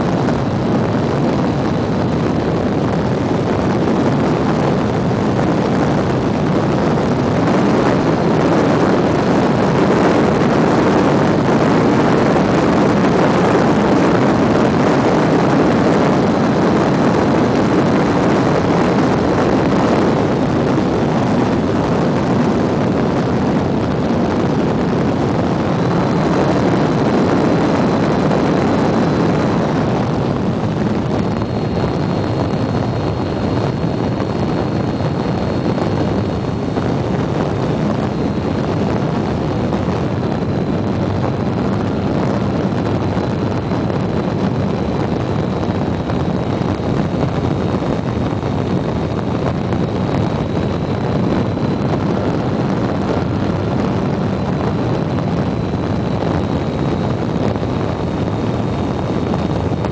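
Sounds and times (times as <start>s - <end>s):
model airplane engine and propeller: 0.0s - 59.9s
wind rush on microphone: 0.0s - 59.9s.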